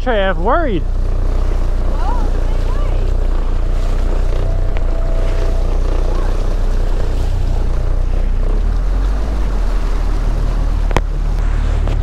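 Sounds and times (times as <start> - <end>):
outboard motor droning: 0.0 - 12.0
water rushing along hull: 0.0 - 12.0.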